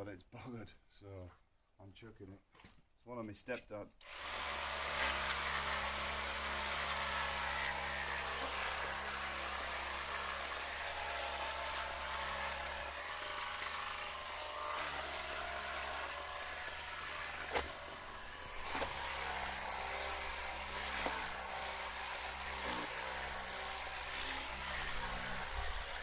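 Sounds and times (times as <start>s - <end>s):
orbital sander motor hum: 4.9s - 26.0s.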